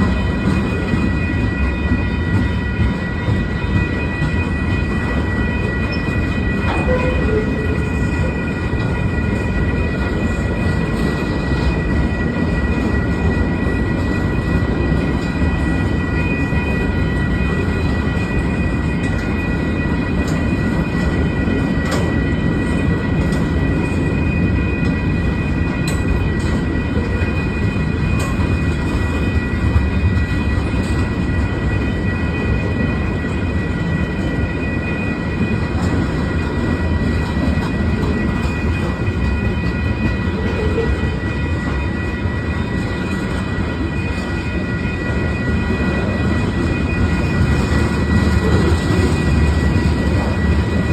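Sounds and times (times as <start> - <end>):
high ringing hum: 0.0 - 50.9
train wheels rumbling on rails: 0.0 - 50.9.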